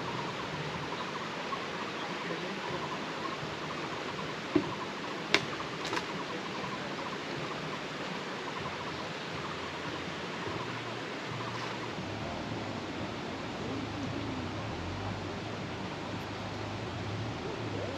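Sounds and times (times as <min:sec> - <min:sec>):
steady rushing noise: 0:00.0 - 0:17.9.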